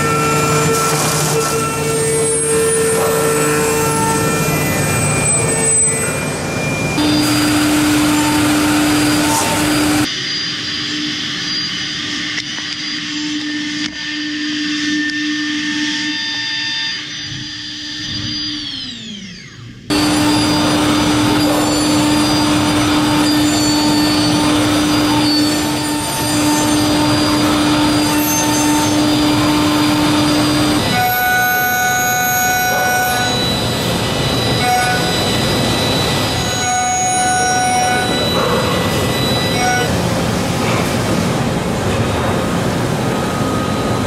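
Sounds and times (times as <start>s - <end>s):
machine cutting metal: 0.0s - 44.0s
spindle whine: 0.0s - 44.0s.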